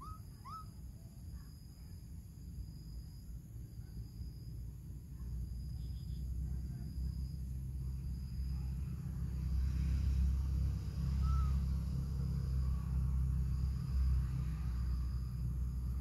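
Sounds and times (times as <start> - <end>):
faint insect chirring: 0.0 - 16.0.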